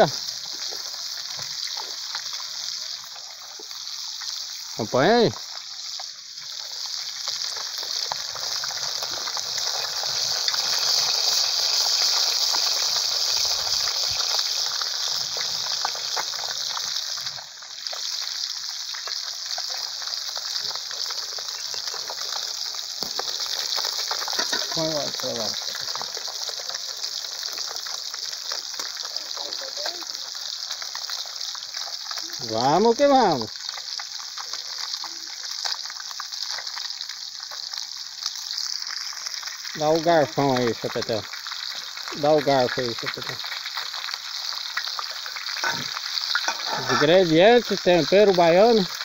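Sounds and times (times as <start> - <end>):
fish frying in hot oil: 0.0 - 49.0.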